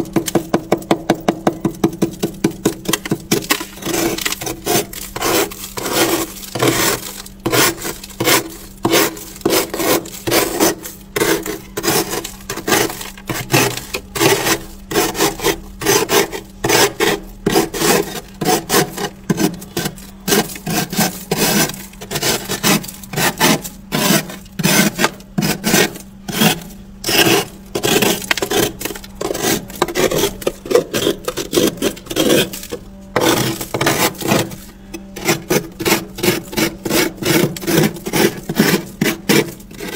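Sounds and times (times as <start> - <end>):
scraping freezer frost: 0.0 - 39.9.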